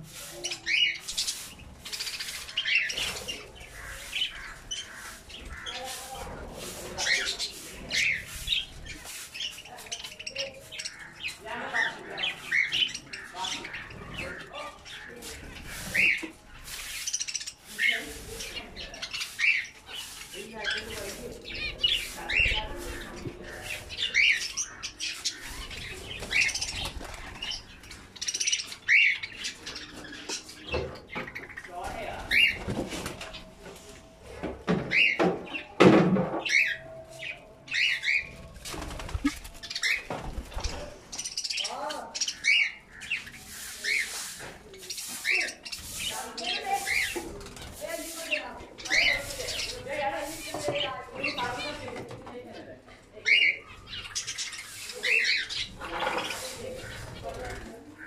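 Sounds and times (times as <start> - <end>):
budgerigars chirping: 0.5 - 32.6, 39.2 - 51.9, 52.5 - 58.0.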